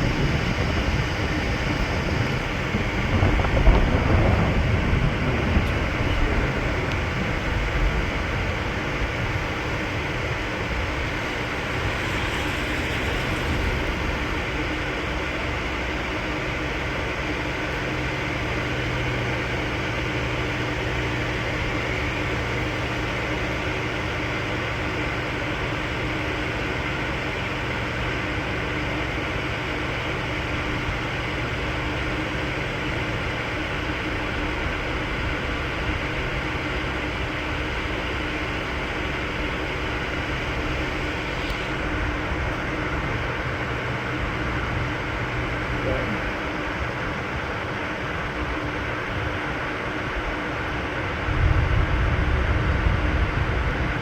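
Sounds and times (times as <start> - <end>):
vehicle running hum: 0.0 - 54.0.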